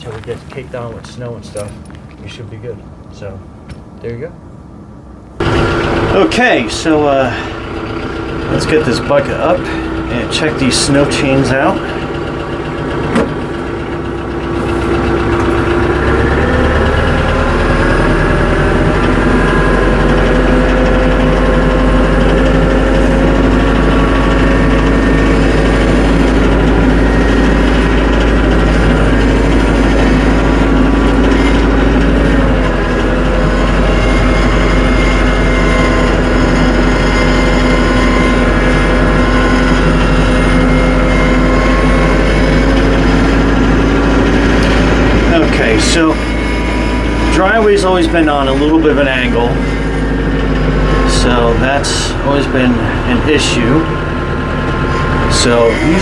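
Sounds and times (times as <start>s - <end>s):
tractor diesel engine revving: 5.3s - 56.0s.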